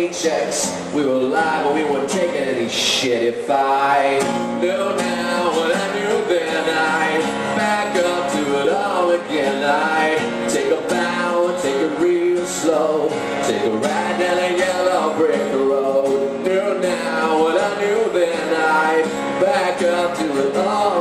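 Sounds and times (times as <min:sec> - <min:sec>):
acoustic guitar strumming: 0:00.0 - 0:21.0
man singing: 0:00.0 - 0:21.0.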